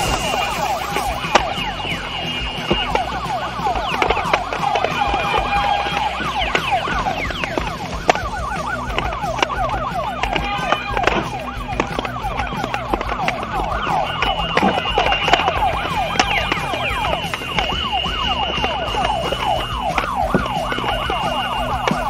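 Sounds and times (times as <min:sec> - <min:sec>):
electronic siren warbling: 0:00.0 - 0:22.0.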